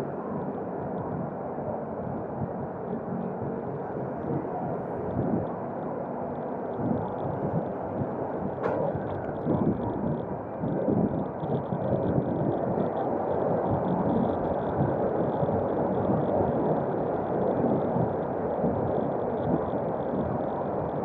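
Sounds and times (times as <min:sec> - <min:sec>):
wind and road noise on bicycle: 0:00.0 - 0:21.0.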